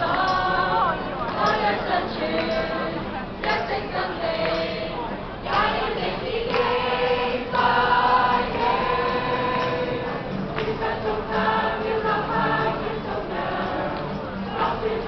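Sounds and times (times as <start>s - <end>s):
choir singing a carol: 0.0s - 15.0s.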